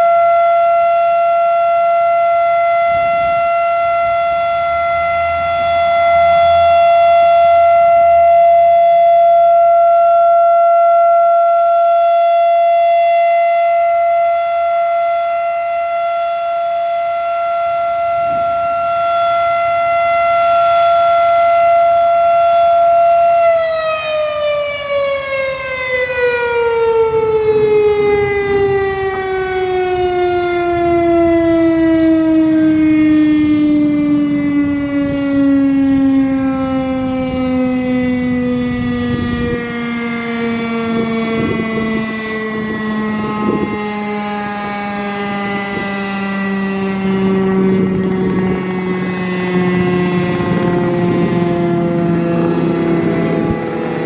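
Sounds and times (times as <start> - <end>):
warning siren high tone: 0.0 - 54.0.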